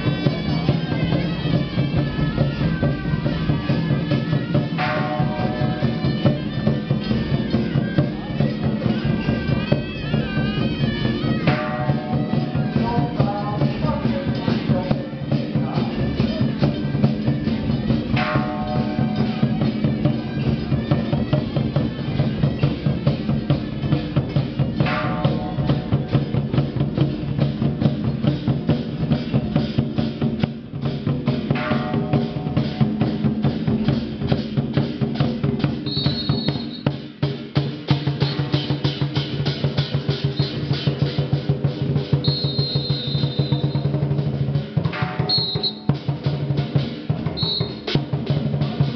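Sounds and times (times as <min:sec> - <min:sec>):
fast percussion beat: 0:00.0 - 0:48.9.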